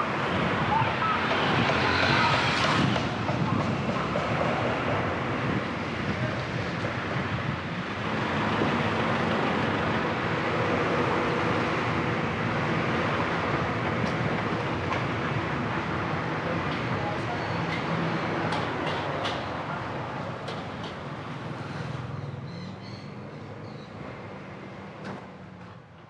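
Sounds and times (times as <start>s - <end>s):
tyre noise on road: 0.0s - 22.2s
city traffic from inside car: 0.0s - 26.0s.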